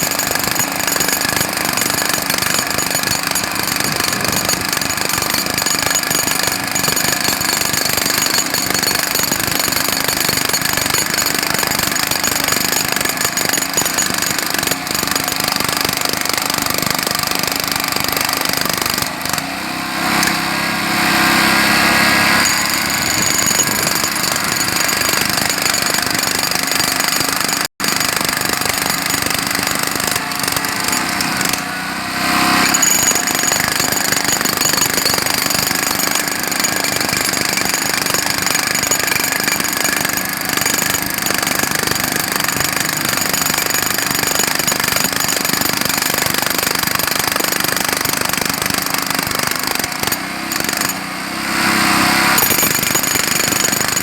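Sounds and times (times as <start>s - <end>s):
jackhammer hammering: 0.0s - 54.0s.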